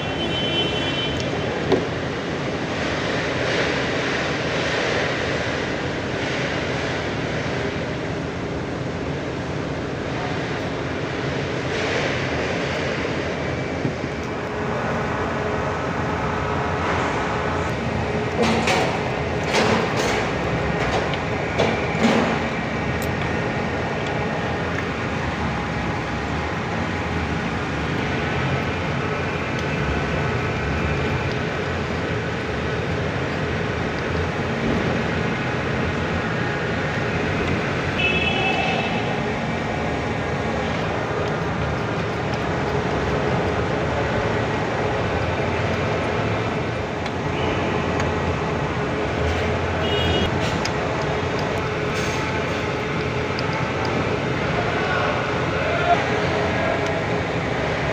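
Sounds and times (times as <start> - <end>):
forklift engine running: 0.0 - 57.9.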